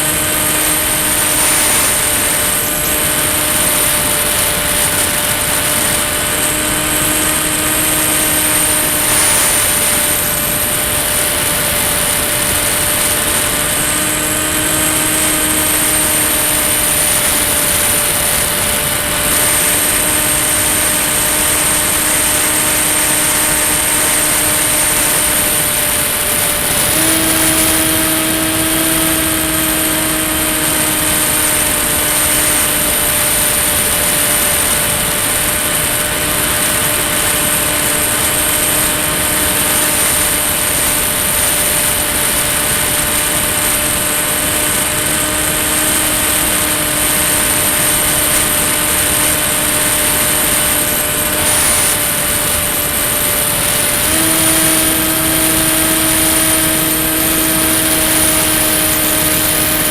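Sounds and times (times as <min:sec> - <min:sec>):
model plane motor whine: 0:00.0 - 0:59.9.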